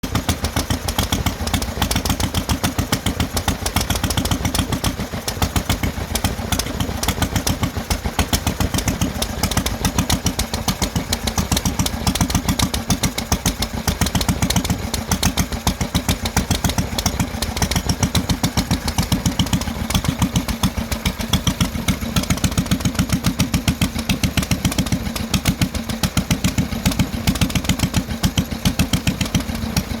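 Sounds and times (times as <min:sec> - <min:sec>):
engines chugging: 0:00.0 - 0:30.0.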